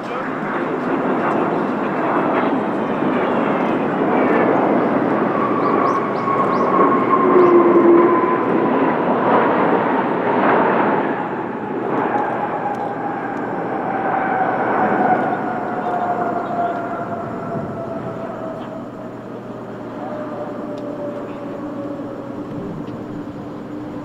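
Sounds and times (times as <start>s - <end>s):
jet airliner passing: 0.0s - 24.0s.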